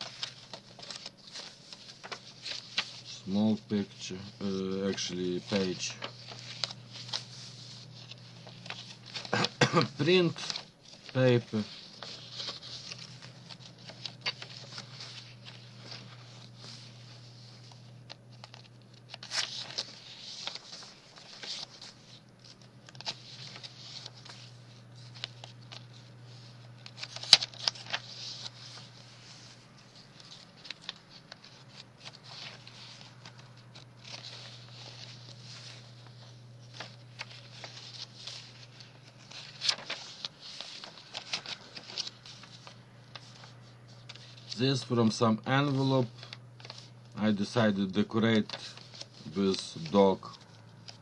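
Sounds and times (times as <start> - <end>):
paper rustling and crinkling: 0.0 - 51.0.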